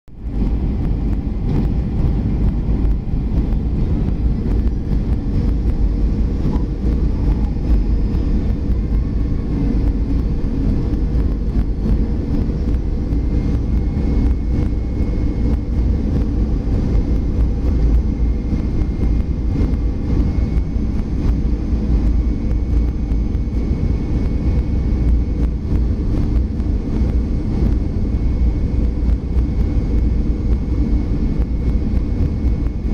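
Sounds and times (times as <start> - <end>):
airplane cabin engine rumble: 0.1 - 32.9
faint high whine: 0.1 - 32.9.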